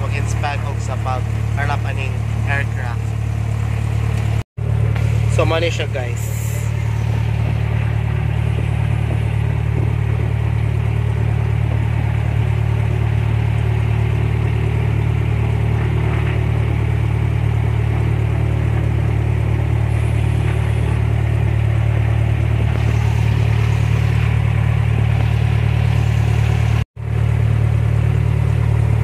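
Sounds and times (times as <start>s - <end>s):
airplane engine drone in cabin: 0.0s - 29.0s.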